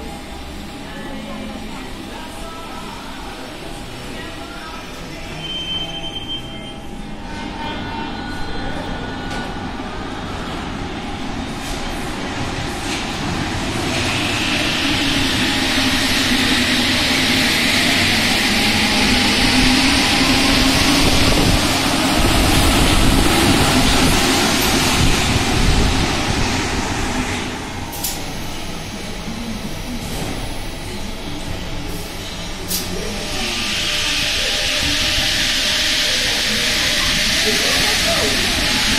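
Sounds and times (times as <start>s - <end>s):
metro train rumble and hiss: 0.0s - 38.9s.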